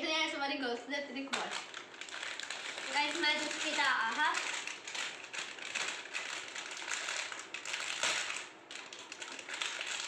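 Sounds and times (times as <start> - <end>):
plastic snack packet crackling: 1.2 - 10.0.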